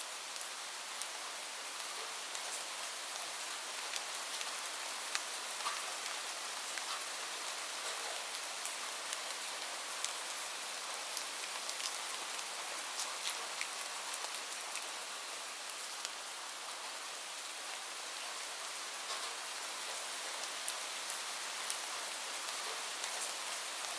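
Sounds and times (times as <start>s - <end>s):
steady rain hiss: 0.0s - 23.9s
raindrops ticking on a surface: 0.1s - 23.9s.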